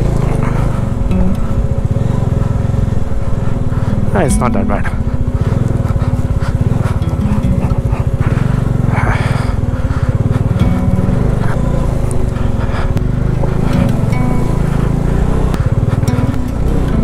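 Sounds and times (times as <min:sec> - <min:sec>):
motorcycle engine under load: 0:00.0 - 0:17.0.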